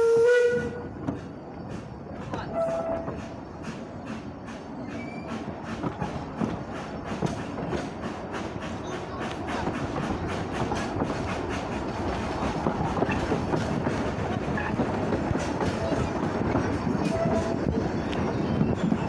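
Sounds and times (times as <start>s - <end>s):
train carriages rumbling: 0.0s - 19.0s
wheels clattering over rail joints: 0.5s - 19.0s.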